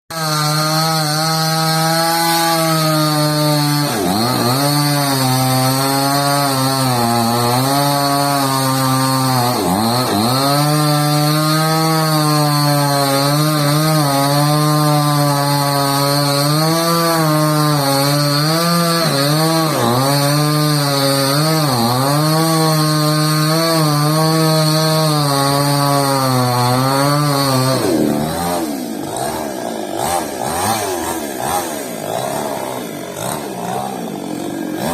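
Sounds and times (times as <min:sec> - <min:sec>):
chainsaw engine revving: 0:00.1 - 0:34.9.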